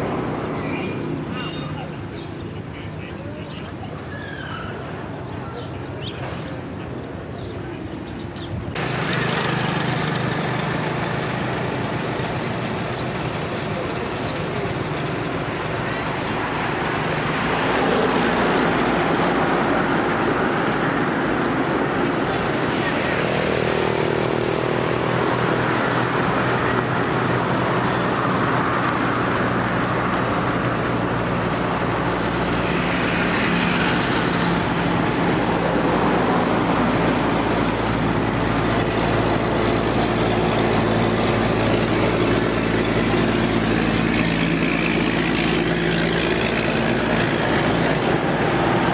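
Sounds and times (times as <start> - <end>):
heavy trucks passing: 0.0 - 48.9
motorcycles passing: 0.0 - 48.9.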